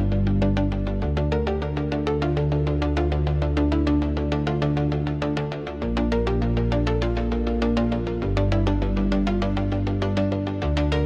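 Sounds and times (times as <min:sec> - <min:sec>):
held synth bass: 0:00.0 - 0:11.0.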